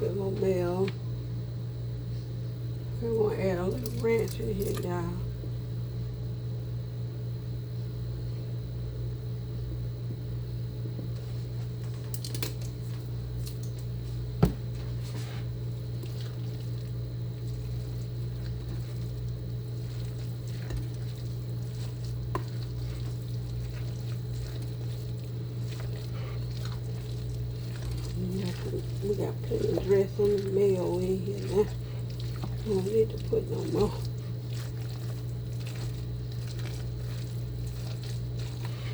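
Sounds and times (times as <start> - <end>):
squishing and scraping in bowl: 0.0 - 1.2, 2.0 - 5.3, 11.0 - 38.9
steady low hum: 0.0 - 38.9.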